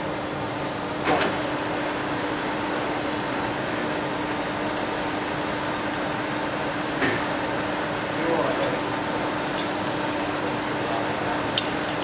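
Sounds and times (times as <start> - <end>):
workshop machinery hum: 0.0 - 12.0.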